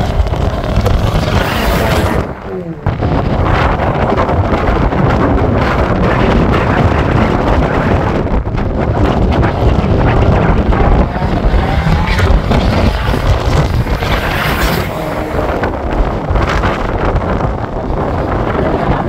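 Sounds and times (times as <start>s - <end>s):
racing car engine revving: 0.0s - 7.9s, 8.9s - 17.4s
wind buffeting microphone: 0.0s - 19.0s.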